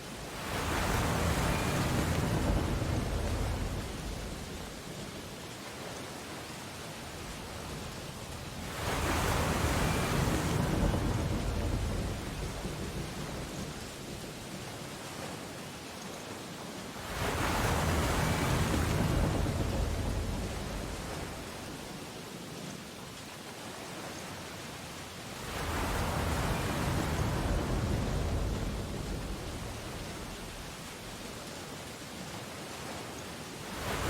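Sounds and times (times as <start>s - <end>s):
surf hiss: 0.0s - 34.0s
waves crashing on beach: 0.0s - 34.0s.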